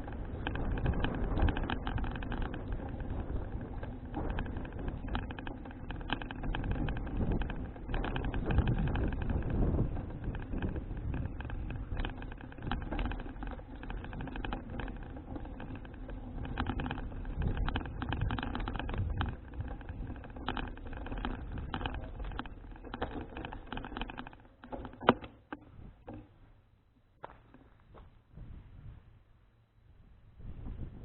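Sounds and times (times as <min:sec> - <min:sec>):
bicycle rattling clicks: 0:00.0 - 0:26.4
bicycle road and wind rumble: 0:00.0 - 0:31.0.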